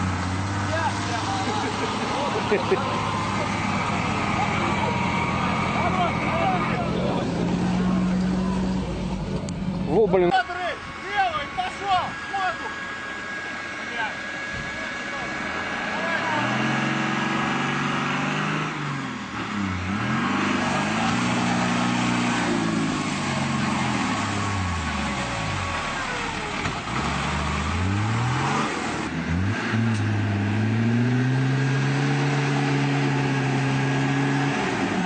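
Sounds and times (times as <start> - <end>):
off-road engine revving: 0.0 - 35.0
vehicle churning through mud: 0.0 - 35.0.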